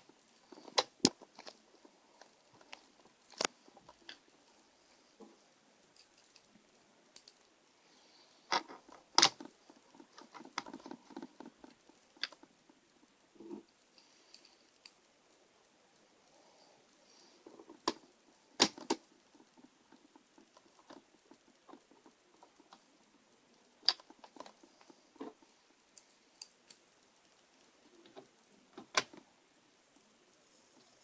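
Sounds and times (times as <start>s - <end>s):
faint ticking and rustling: 0.0s - 31.0s.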